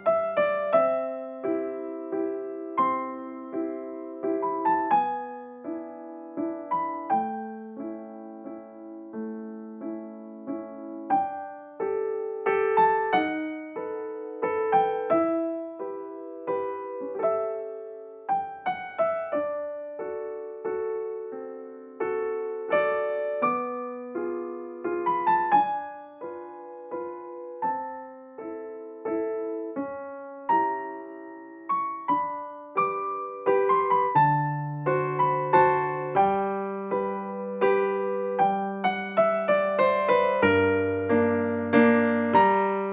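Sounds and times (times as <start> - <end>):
soft piano music: 0.0 - 42.9.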